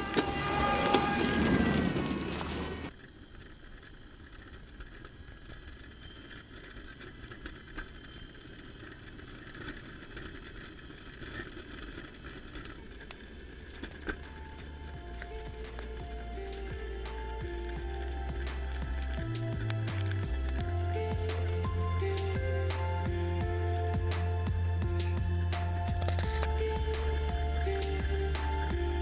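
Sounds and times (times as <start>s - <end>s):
rover wheel and drive noise: 0.0s - 29.0s.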